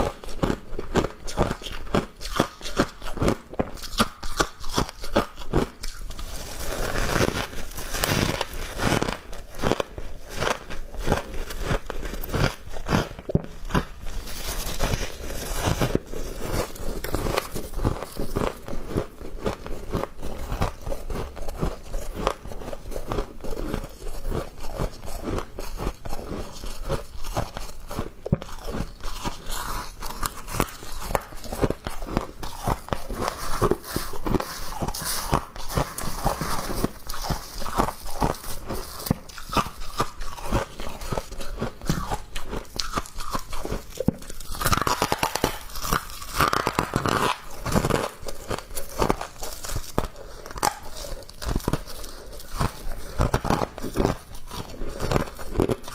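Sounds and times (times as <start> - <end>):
ice crunching while chewed: 0.0 - 55.9.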